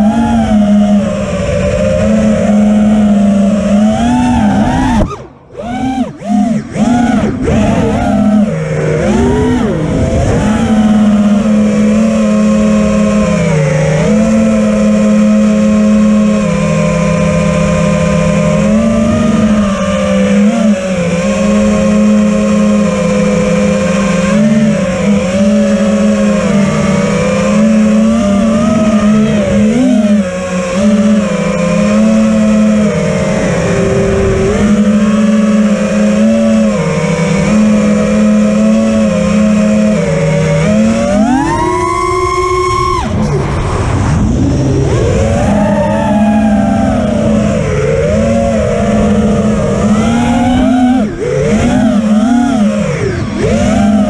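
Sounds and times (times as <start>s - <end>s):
drone motors buzzing: 0.0s - 54.0s.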